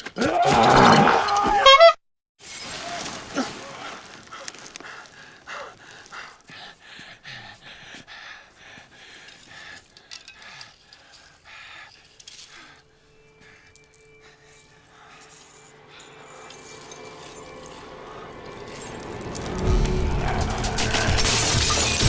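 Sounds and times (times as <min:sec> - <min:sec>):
heavy breathing: 0:03.6 - 0:21.4.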